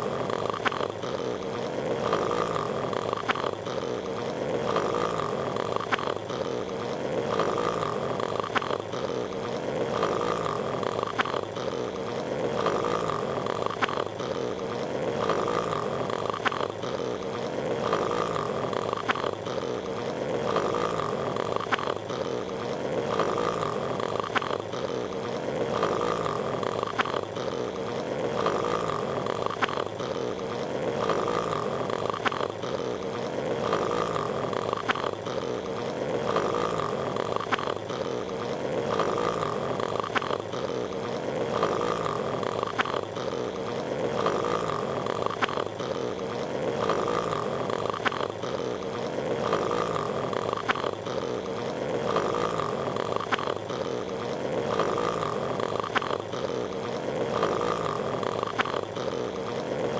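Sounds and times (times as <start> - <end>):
cartoon snoring: 0.0 - 59.9.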